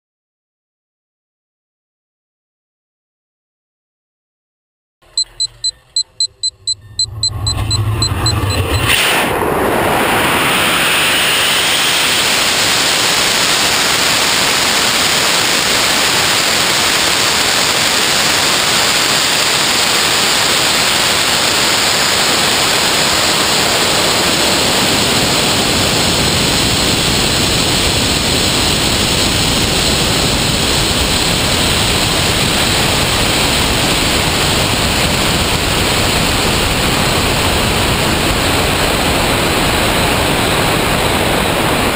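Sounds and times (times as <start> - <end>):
rocket motor roaring: 7.0 - 41.9.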